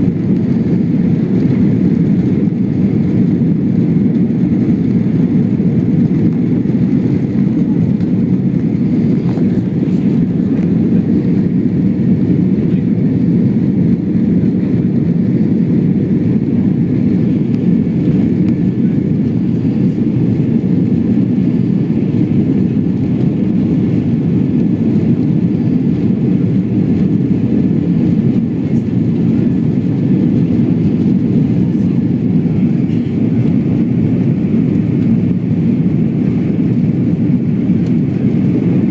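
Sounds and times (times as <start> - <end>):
faint high engine whine: 0.0 - 38.9
jet engine rumble in cabin: 0.0 - 38.9.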